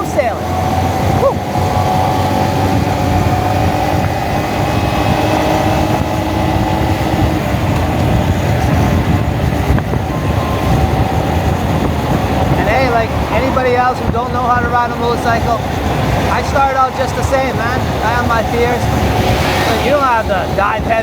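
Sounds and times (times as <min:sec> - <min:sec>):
small motorcycle engine running: 0:00.0 - 0:21.0
wind rumbling on microphone: 0:00.0 - 0:21.0.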